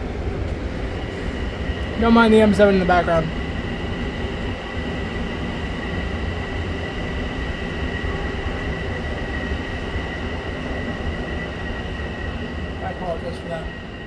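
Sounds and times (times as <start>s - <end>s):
electric train rumbling: 0.0s - 14.0s
electric train whine: 0.0s - 14.0s.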